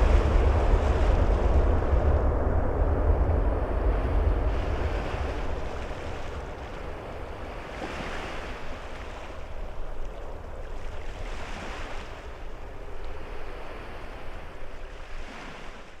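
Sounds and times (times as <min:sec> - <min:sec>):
wind buffeting microphone: 0:00.0 - 0:15.9
sea waves washing onto shore: 0:00.0 - 0:16.0.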